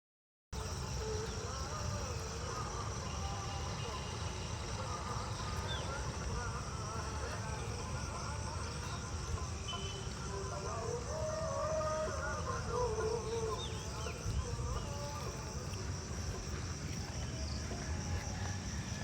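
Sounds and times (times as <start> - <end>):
insects chirring: 0.6 - 19.0.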